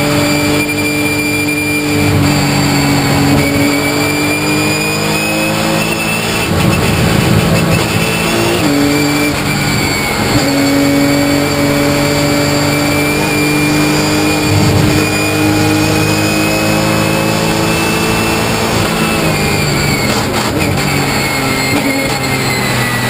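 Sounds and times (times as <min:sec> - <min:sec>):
race engine at full throttle: 0:00.0 - 0:23.0.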